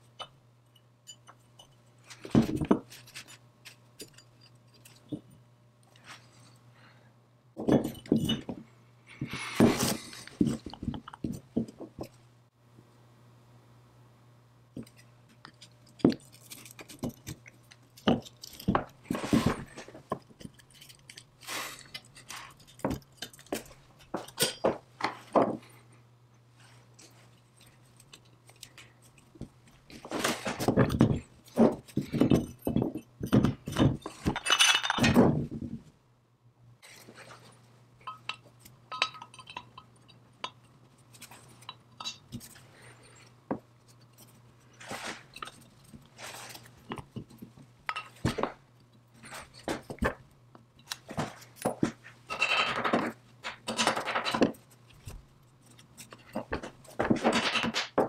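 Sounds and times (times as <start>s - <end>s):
metal parts and tools clinking: 0.1s - 5.4s, 7.6s - 8.6s, 14.8s - 25.7s, 26.6s - 35.4s, 36.9s - 50.2s, 50.8s - 58.0s.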